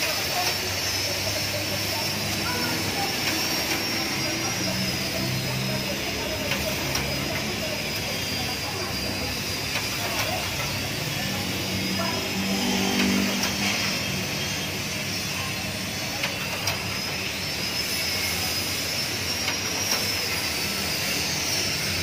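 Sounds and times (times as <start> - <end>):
cooling fan rushing with high whine: 0.0 - 22.0.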